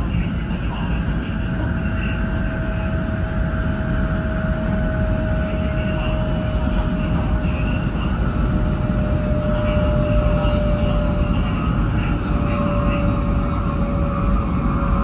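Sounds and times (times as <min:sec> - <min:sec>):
train rumbling with whine: 0:00.0 - 0:15.0.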